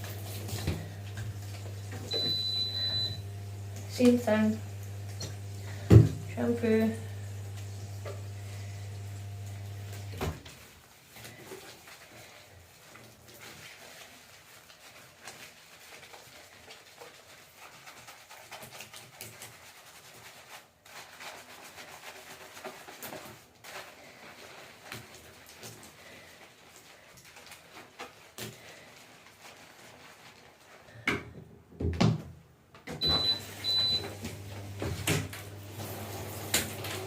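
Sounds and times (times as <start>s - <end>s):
shampoo lathering in wet hair: 0.0s - 30.9s, 33.2s - 37.0s.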